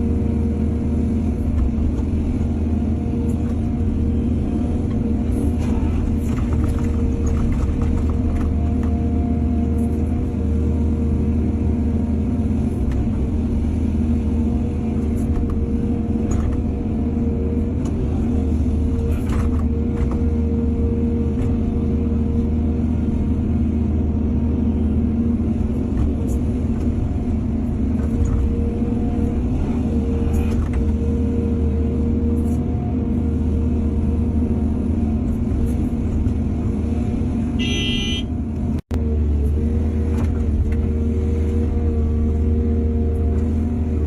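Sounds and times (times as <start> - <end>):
excavator diesel engine rumbling: 0.0 - 44.0.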